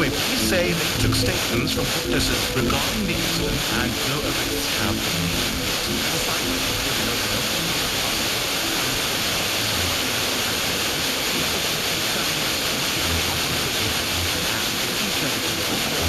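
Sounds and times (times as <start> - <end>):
radio static hiss: 0.0 - 16.0
weak radio broadcast: 0.0 - 16.0.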